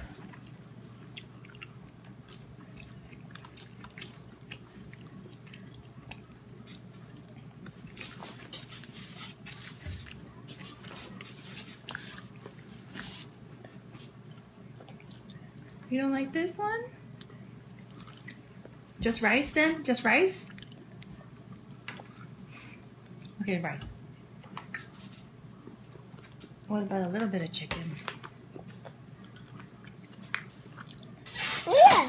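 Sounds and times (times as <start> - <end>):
steady low hum: 0.0 - 31.4.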